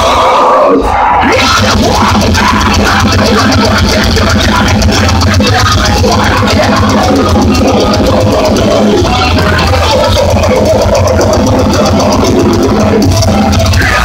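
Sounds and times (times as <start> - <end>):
distorted guitars: 0.0 - 14.0
heavy bass: 0.0 - 14.0
very fast drumming: 1.2 - 14.0.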